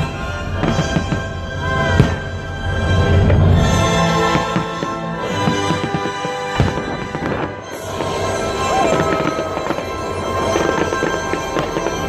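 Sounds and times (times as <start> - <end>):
fireworks bursting and crackling: 0.0 - 12.0
music playing: 0.0 - 12.0
deep firework bang: 0.6 - 2.4, 3.1 - 12.0.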